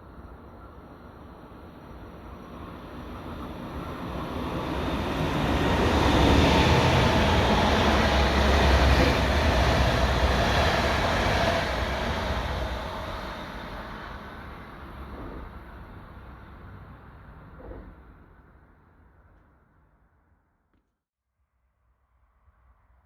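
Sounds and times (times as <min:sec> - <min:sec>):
train passing with heavy rumble: 0:00.0 - 0:19.2.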